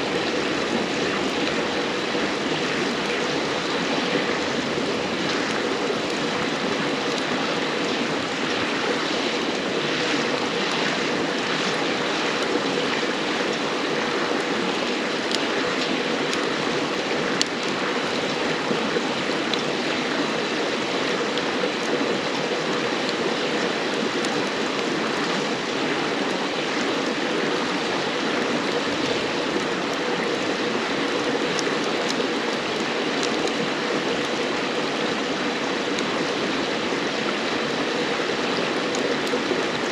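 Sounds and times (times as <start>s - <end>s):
campfire crackling and popping: 0.0s - 39.9s
river babbling: 0.0s - 39.9s.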